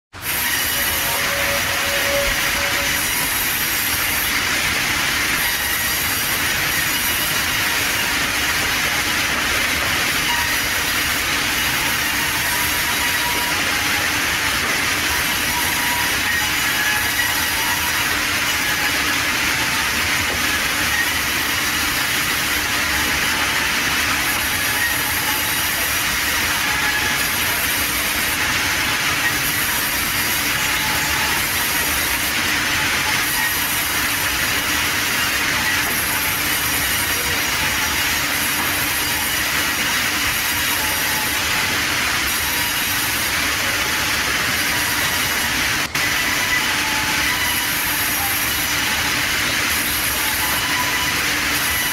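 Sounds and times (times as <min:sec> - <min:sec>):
band saw cutting wood: 0:00.1 - 0:51.9.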